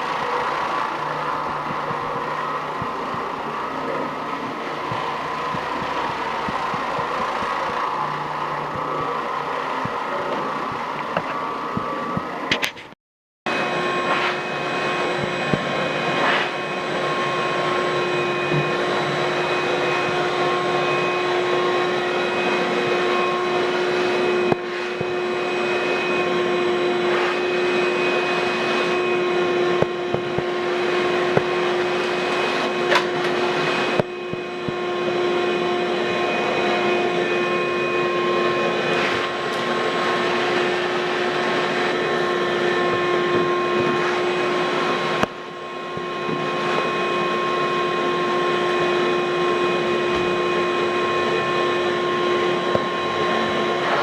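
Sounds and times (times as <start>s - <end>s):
shop vacuum running: 0.0s - 12.9s, 13.5s - 54.0s.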